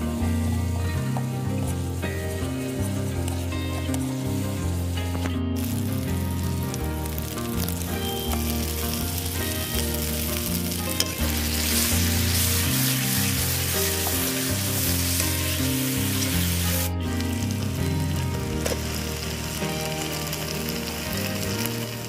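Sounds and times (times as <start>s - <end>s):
background music with bass: 0.0s - 22.0s
food sizzling in a pan: 0.0s - 22.0s.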